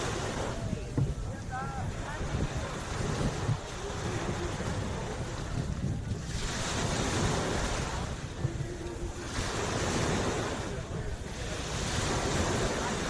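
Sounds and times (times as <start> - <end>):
small waves washing ashore: 0.0 - 13.0
wind buffeting microphone: 0.0 - 13.0.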